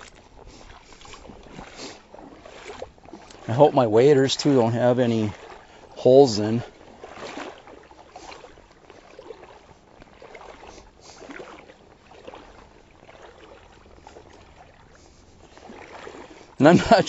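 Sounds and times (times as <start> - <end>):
water sloshing around legs: 0.0 - 17.0.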